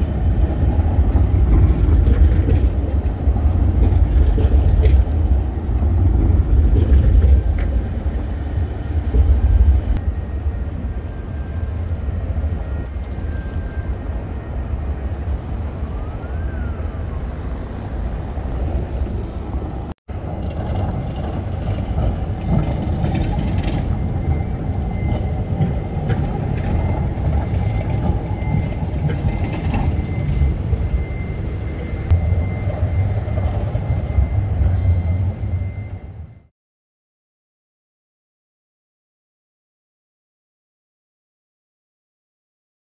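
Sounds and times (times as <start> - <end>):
steady low rumble: 0.0 - 16.1, 16.8 - 36.5.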